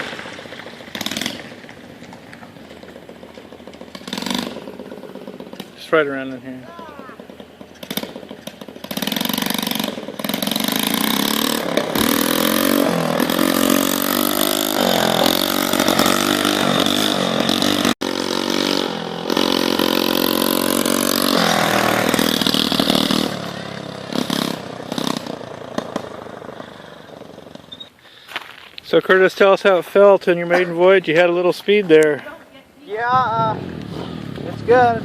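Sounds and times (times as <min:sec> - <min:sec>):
mini-bike engine revving: 0:00.0 - 0:28.0, 0:32.9 - 0:35.0.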